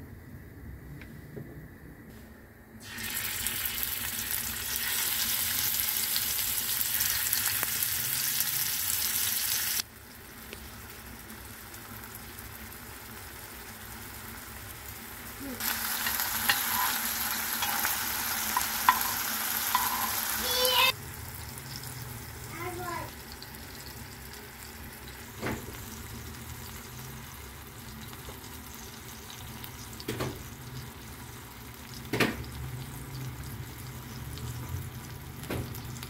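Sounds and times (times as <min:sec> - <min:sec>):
meatballs sizzling in hot oil: 0:02.8 - 0:36.0.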